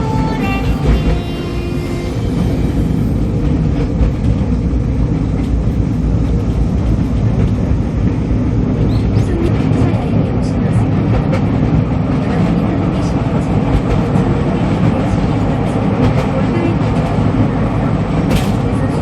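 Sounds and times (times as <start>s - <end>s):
train rumbling in motion: 0.0s - 19.0s.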